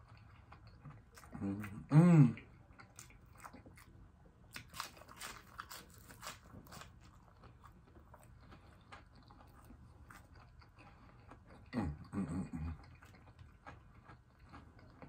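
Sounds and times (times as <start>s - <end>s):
chewing crispy fried food: 0.0s - 15.0s.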